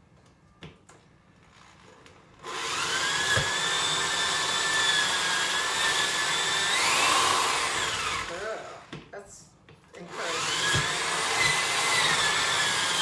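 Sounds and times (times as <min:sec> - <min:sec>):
electric drill whining: 0:01.4 - 0:09.0, 0:10.1 - 0:13.0.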